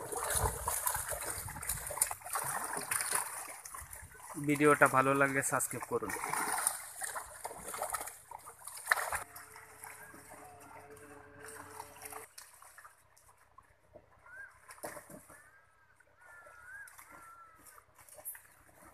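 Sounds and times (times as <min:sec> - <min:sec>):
water splashing and sloshing: 0:00.0 - 0:18.9.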